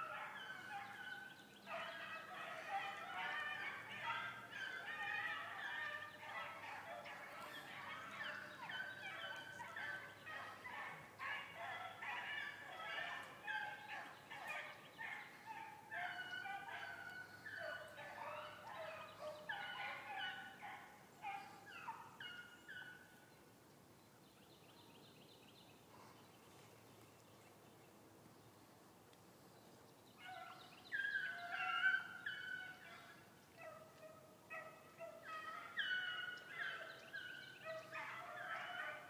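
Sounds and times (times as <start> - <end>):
hounds baying: 0.0 - 23.1, 30.2 - 39.0.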